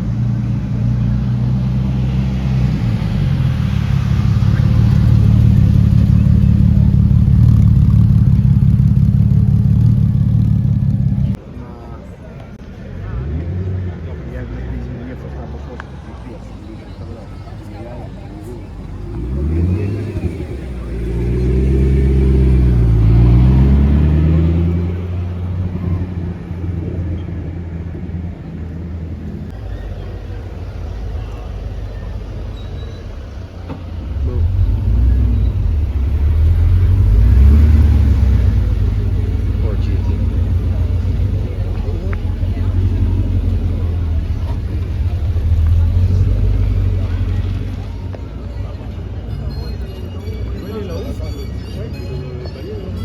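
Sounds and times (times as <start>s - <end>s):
car engine running: 0.0s - 11.4s, 16.5s - 49.3s.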